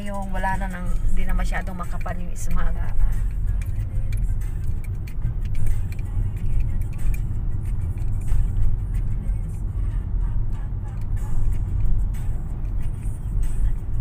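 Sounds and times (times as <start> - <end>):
car cabin engine and road noise: 0.0 - 14.0.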